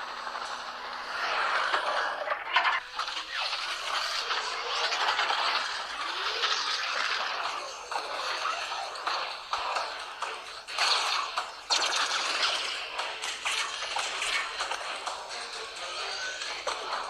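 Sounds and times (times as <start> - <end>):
mechanical rattling and scraping: 0.1 - 17.0.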